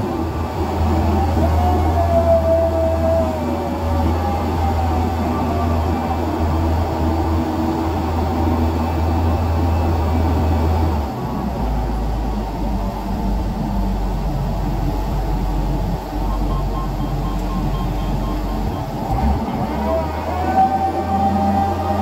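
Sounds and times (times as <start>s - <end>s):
crane engine humming: 0.0s - 22.0s.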